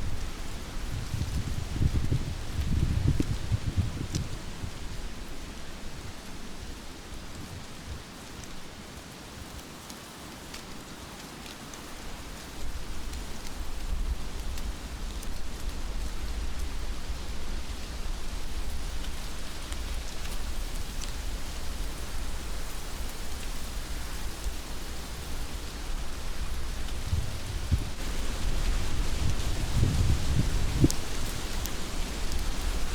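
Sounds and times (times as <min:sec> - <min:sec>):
heavy rain falling: 0:00.0 - 0:32.9.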